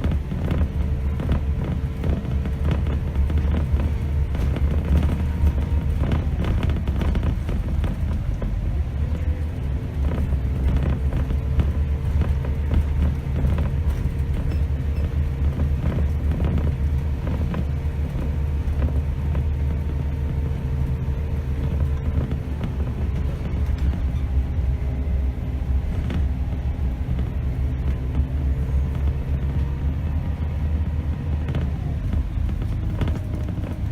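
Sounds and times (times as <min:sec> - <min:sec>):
bus diesel engine drone: 0:00.0 - 0:33.9
rattles and knocks: 0:00.0 - 0:33.9.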